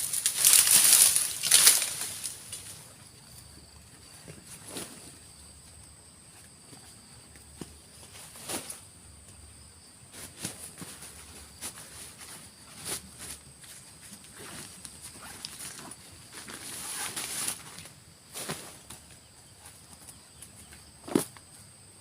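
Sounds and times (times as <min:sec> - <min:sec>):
rustling: 0:00.0 - 0:09.0, 0:10.1 - 0:21.4
forest insects droning: 0:00.0 - 0:22.0.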